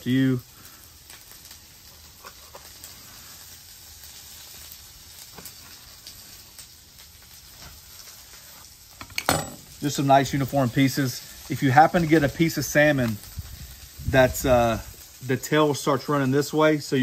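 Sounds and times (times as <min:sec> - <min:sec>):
vegetables sizzling on griddle: 0:00.0 - 0:17.0.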